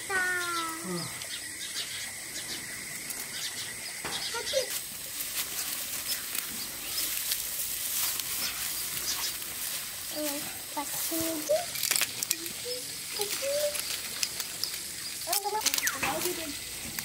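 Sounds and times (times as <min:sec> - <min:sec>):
dry straw rustling and crackling: 0:02.9 - 0:17.0.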